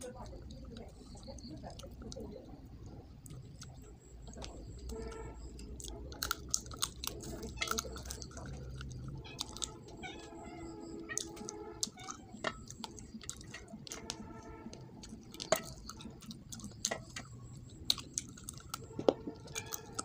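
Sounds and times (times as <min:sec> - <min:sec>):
person chewing and lip-smacking: 0:03.1 - 0:10.1, 0:10.9 - 0:20.0.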